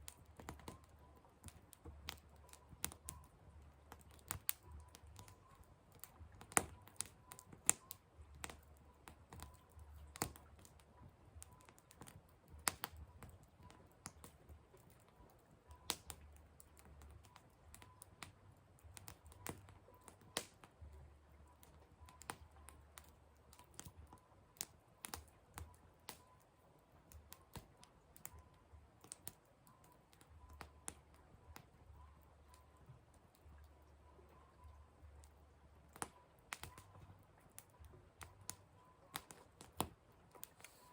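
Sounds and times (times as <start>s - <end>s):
firewood crackling and popping: 0.0s - 40.9s.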